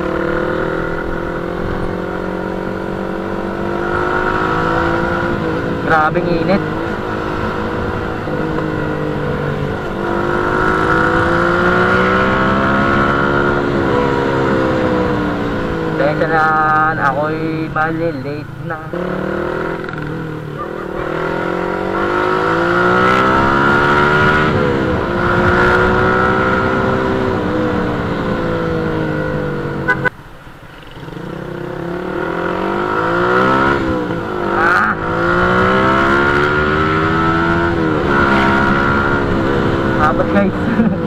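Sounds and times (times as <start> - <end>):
motorcycle engine accelerating: 0.0 - 30.1, 30.7 - 41.0.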